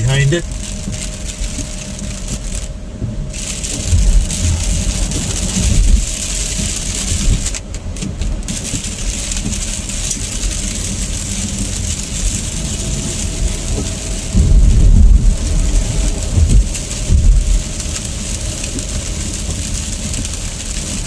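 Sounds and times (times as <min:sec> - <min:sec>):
car engine and road rumble: 0:00.0 - 0:21.0
tyres hissing on wet road: 0:00.0 - 0:21.0.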